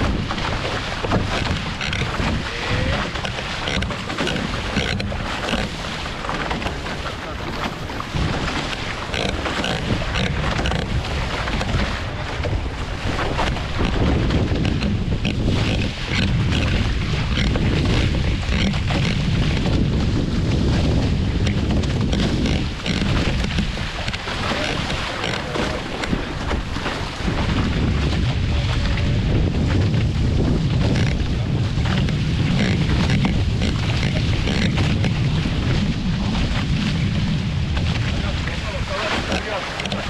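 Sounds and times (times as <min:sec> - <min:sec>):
water splashing along hull: 0:00.0 - 0:40.0
wind buffeting microphone: 0:00.0 - 0:40.0.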